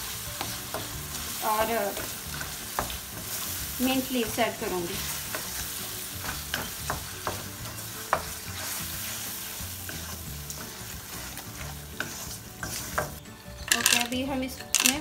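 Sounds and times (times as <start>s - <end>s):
meat sizzling in a wok: 0.0s - 14.1s
wooden spatula scraping metal: 0.4s - 14.2s.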